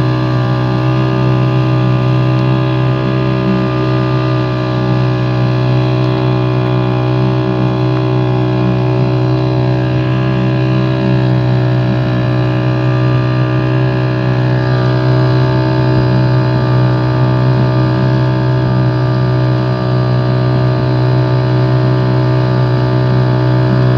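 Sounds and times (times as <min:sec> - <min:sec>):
boat motor droning: 0:00.0 - 0:23.9.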